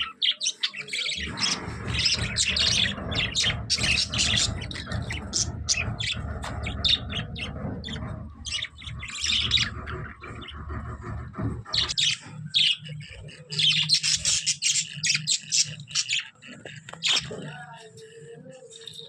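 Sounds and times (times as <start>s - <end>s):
budgerigars chirping and squawking: 0.0s - 19.0s.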